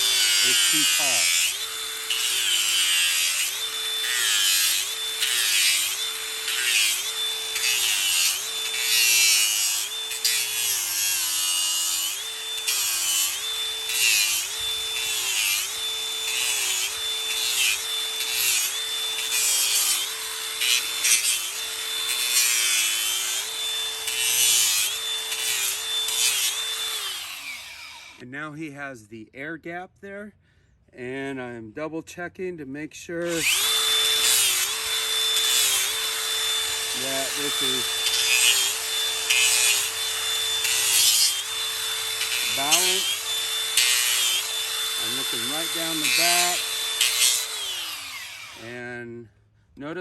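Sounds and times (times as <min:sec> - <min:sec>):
electric grinder grinding hoof: 0:00.0 - 0:28.2, 0:33.2 - 0:48.8.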